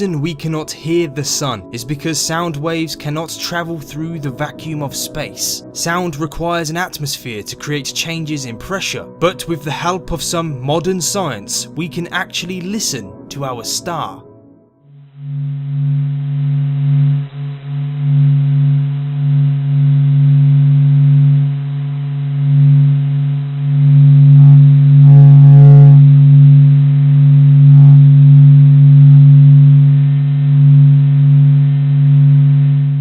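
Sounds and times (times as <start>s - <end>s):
otherworldly low hum: 0.0s - 33.0s.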